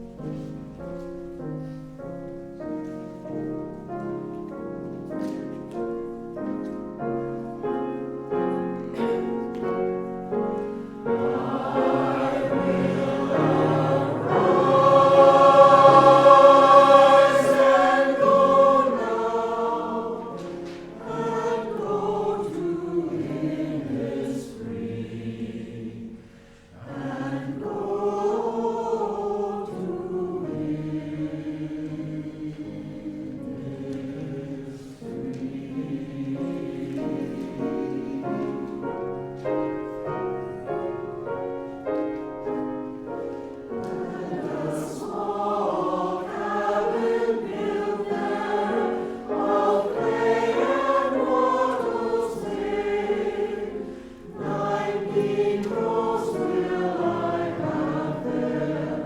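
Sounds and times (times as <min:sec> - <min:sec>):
choir singing in harmony: 0:02.6 - 0:59.0.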